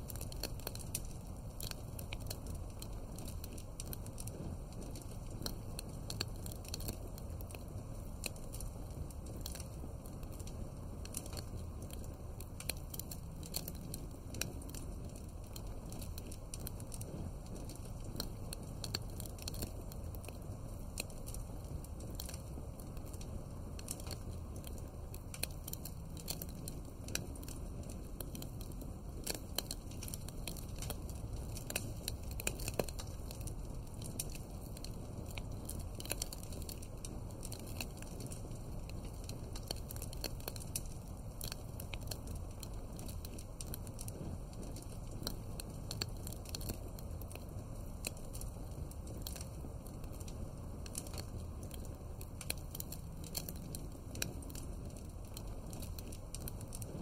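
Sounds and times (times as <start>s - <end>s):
low rumble of flames: 0.0s - 57.0s
wood fire crackling: 0.0s - 57.0s.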